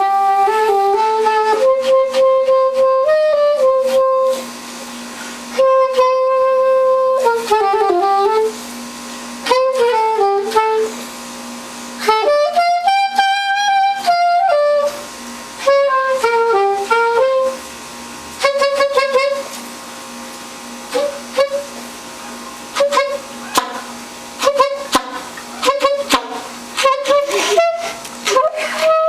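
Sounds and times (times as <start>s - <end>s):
soprano saxophone melody: 0.0s - 19.8s, 20.7s - 29.0s
steady low hum: 0.0s - 29.0s.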